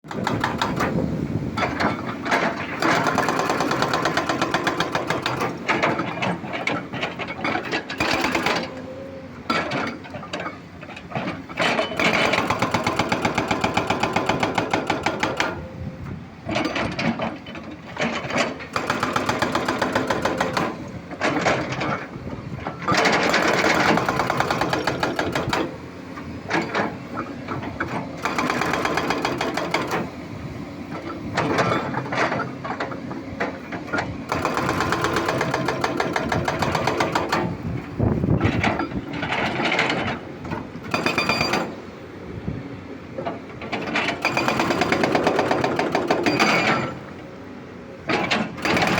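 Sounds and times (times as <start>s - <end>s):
excavator mechanical clatter: 0.1s - 48.9s.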